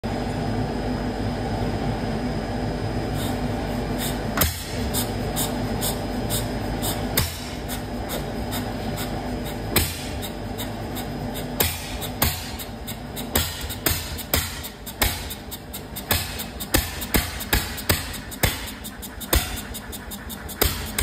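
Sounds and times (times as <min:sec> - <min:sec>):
stationary engine running: 0:03.5 - 0:21.0.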